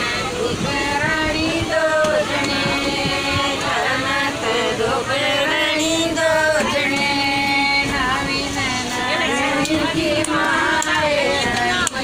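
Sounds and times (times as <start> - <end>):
women singing devotional song: 0.0 - 12.0.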